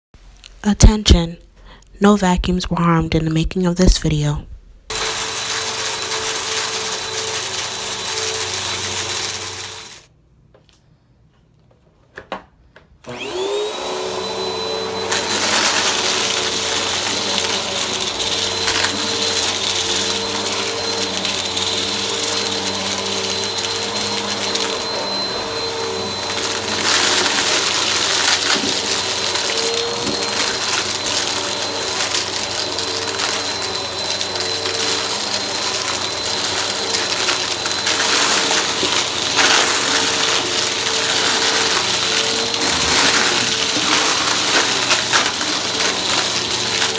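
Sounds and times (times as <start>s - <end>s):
vacuum cleaner running: 4.9s - 10.1s, 13.0s - 46.9s.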